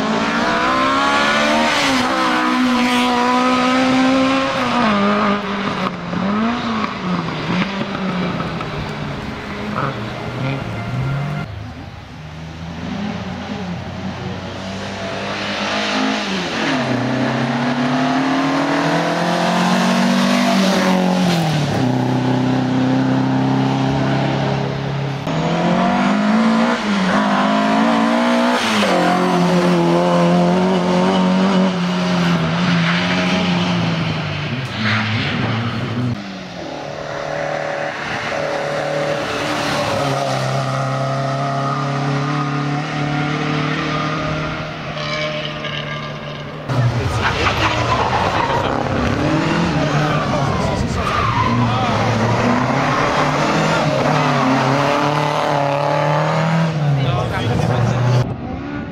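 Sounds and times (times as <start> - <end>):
rally car engine at full throttle: 0.0 - 58.9.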